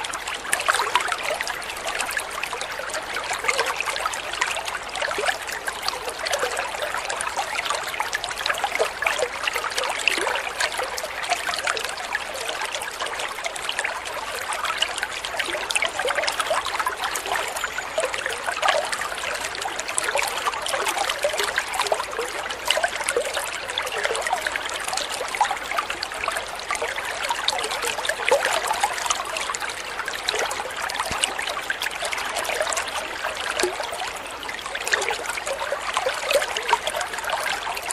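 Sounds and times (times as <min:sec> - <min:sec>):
water trickling: 0:00.0 - 0:37.9.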